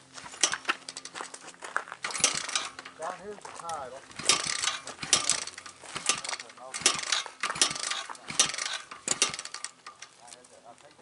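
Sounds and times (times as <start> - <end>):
dirt bike kick-start ratchet: 0.3 - 1.4, 2.0 - 10.5.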